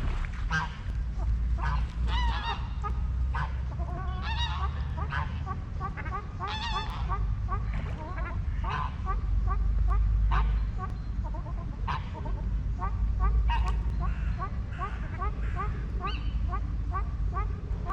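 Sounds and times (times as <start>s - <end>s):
low rumble: 0.0s - 17.9s
waterfowl calling: 0.0s - 17.9s.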